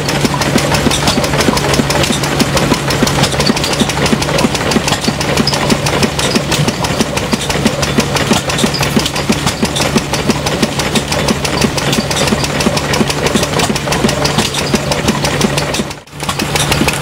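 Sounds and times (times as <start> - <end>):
stationary engine running: 0.0 - 17.0.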